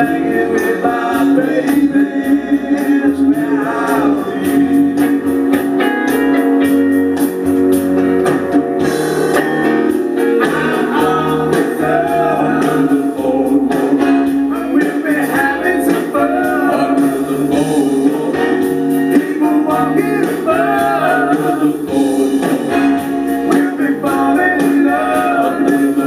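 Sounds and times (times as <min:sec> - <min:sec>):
person singing: 0:00.0 - 0:05.9, 0:10.2 - 0:26.0
guitar: 0:00.0 - 0:26.0.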